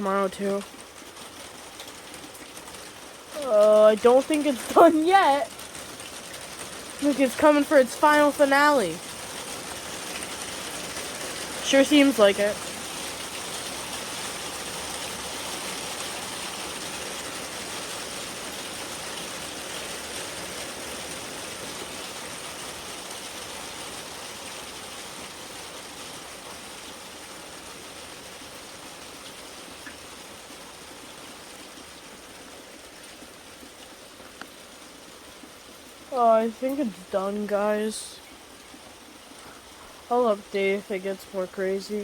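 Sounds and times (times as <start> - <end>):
rain hiss: 0.0 - 42.0.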